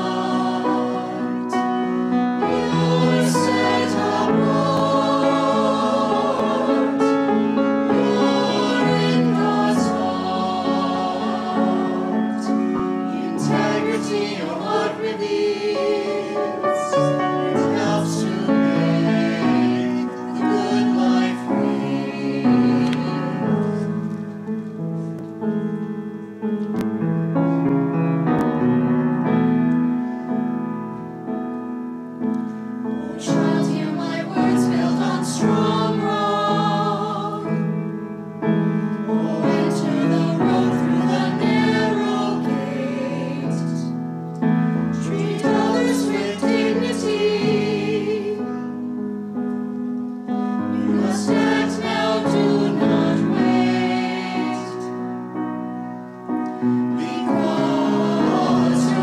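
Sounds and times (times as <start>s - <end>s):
choir singing in parts: 0.0s - 24.1s, 32.8s - 49.1s, 50.2s - 55.7s, 56.4s - 59.0s
piano accompaniment: 0.0s - 59.0s.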